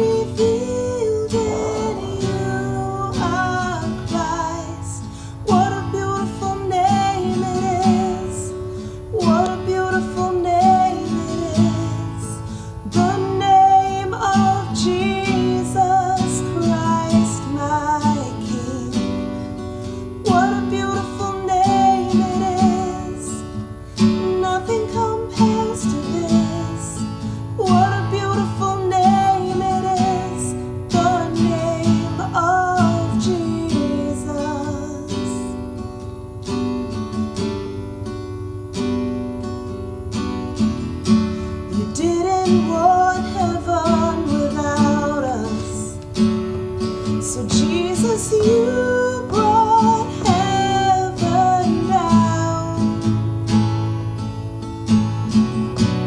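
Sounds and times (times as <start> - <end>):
woman singing: 0.0 - 35.7, 41.7 - 46.2, 46.8 - 53.3
strummed acoustic guitar: 0.0 - 56.0.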